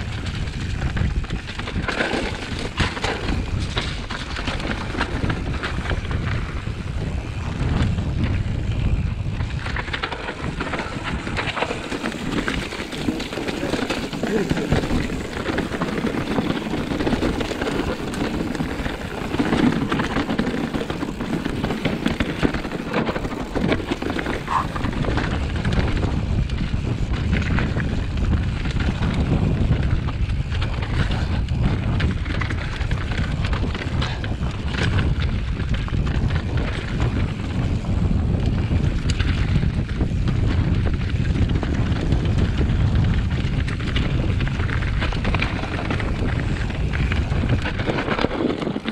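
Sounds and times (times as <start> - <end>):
mountain bike rattling: 0.0 - 48.9
tyres crunching over rocky trail: 0.0 - 48.9
wind rumbling on microphone: 0.0 - 48.9.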